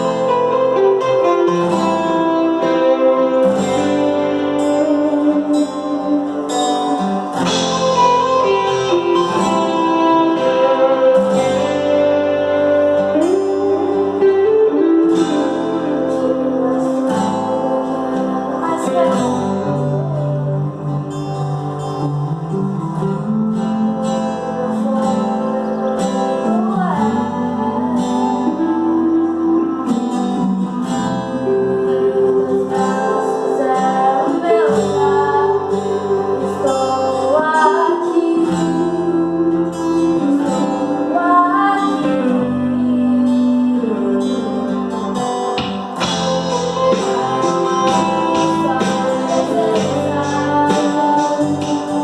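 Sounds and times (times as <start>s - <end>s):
person singing: 0.0s - 52.0s
strummed acoustic guitar: 0.0s - 52.0s.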